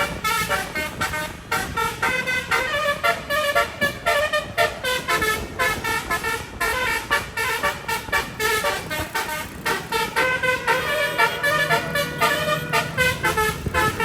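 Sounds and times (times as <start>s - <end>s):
bus air horn melody: 0.0s - 14.0s.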